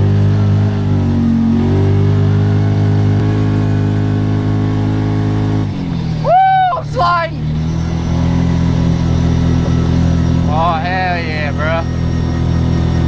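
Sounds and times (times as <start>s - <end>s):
engine at high revs: 0.0s - 13.0s.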